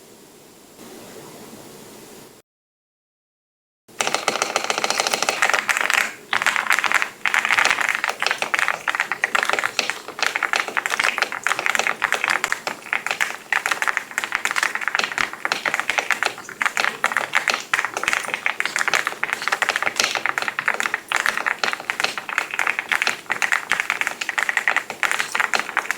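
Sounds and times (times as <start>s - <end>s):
mechanical keyboard typing: 4.0s - 25.9s.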